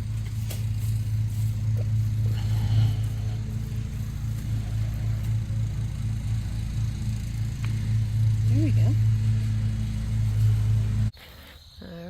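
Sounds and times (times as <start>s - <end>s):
low mechanical hum: 0.0s - 11.2s.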